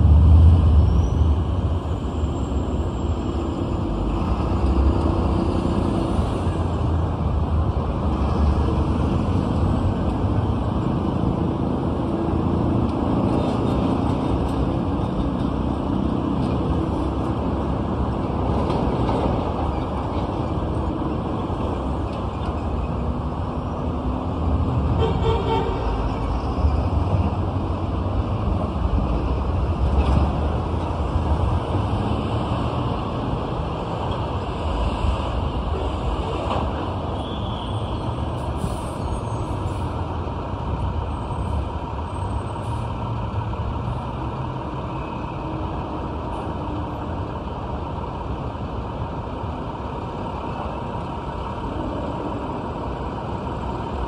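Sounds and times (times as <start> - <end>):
traffic rumble: 0.0 - 54.0.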